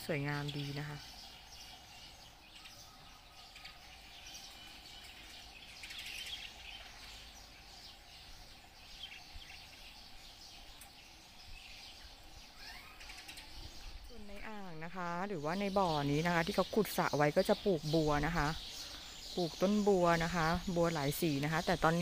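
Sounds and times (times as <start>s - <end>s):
faint bird chirps: 0.0s - 22.0s
low steady background hum: 0.0s - 22.0s.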